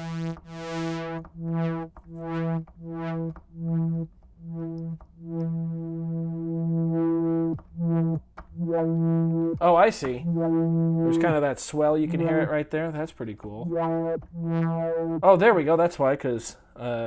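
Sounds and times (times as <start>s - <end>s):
synthesizer repeating low note: 0.0s - 16.0s.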